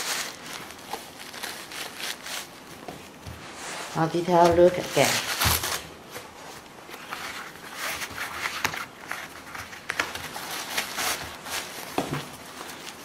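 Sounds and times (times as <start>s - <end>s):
tissue paper pulled out: 0.0s - 2.8s, 3.4s - 13.0s.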